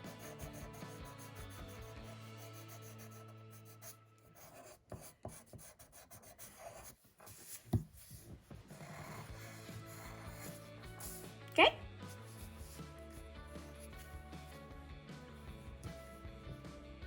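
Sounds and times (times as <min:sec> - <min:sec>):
pencil scratching on paper: 0:00.0 - 0:14.6.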